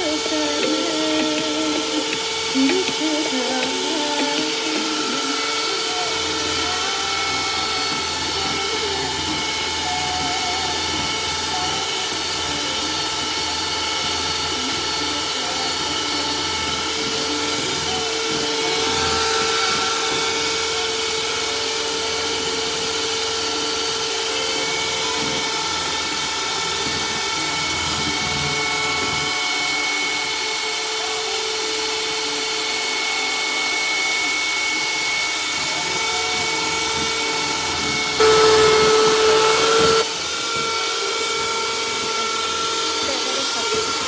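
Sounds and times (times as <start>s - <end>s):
electric hand mixer whining: 0.0s - 44.0s.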